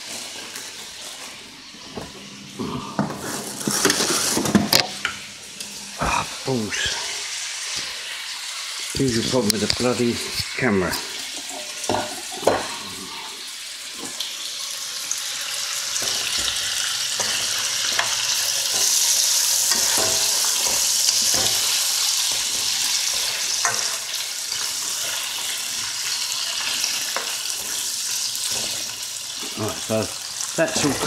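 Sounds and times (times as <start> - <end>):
chips sizzling in hot fat: 0.0 - 31.0.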